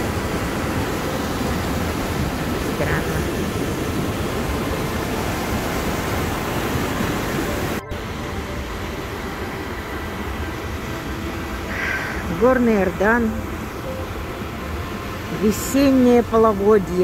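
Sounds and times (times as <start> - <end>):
whitewater rushing over rocks: 0.0 - 17.0.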